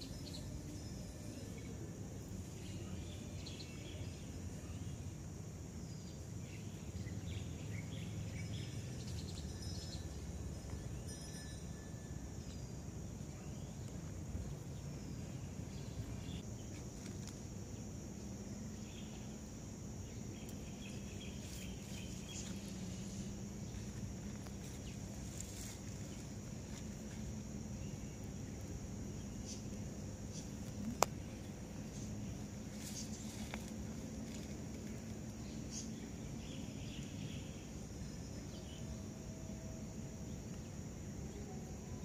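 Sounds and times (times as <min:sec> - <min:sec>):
high-pitched insect drone: 0:00.0 - 0:42.0.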